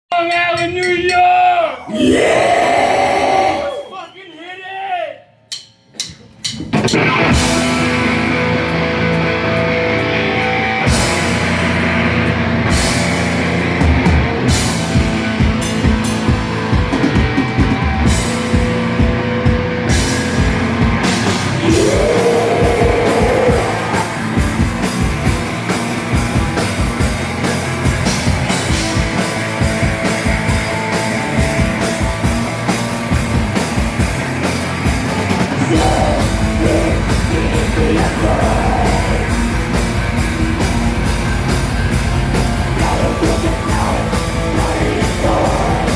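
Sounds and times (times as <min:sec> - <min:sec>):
bass guitar: 0:01.9 - 0:03.8, 0:06.6 - 0:45.9
distorted electric guitars: 0:01.9 - 0:03.8, 0:06.6 - 0:45.9
drum kit: 0:05.5 - 0:45.9.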